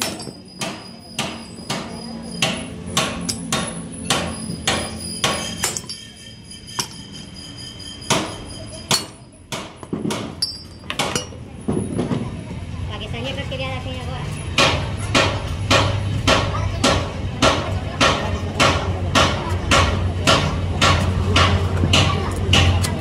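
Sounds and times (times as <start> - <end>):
sledgehammer striking steel: 0.0 - 7.1, 8.0 - 11.4, 14.6 - 23.0.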